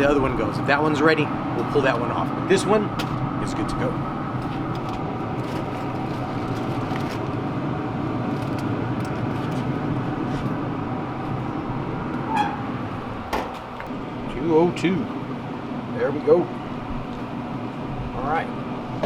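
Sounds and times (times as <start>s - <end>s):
smoker fan whirring: 0.0s - 19.0s.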